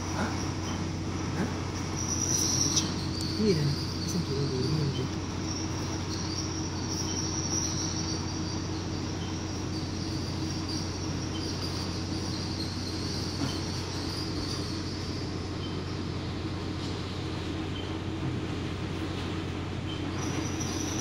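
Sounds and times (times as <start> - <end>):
faint high whine: 0.0 - 21.0
mechanical hum with low drone: 0.0 - 21.0.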